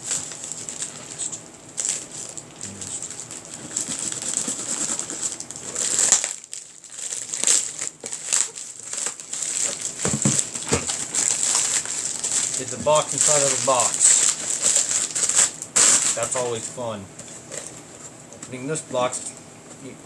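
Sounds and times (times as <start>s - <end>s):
cardboard rustling and crinkling: 0.0s - 18.1s.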